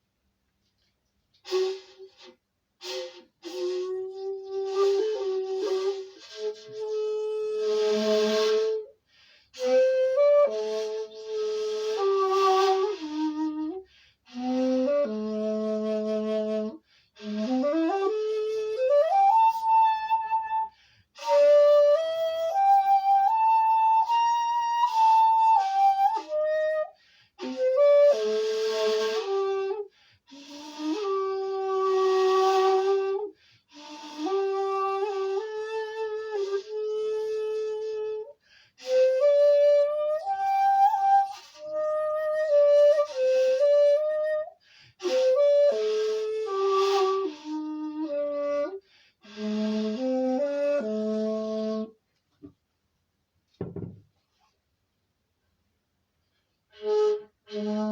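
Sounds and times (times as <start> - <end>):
bamboo flute playing: 1.3 - 52.0, 56.7 - 57.9.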